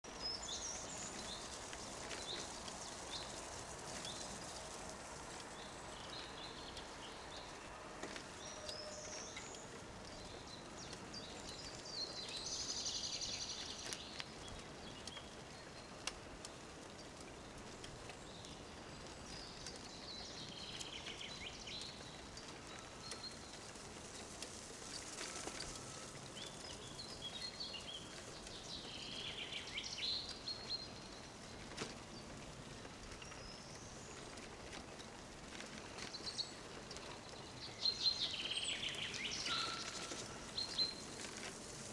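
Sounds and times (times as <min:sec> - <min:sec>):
songbirds trilling and chirping: 0:00.0 - 0:41.9
low background rustle: 0:00.1 - 0:41.9.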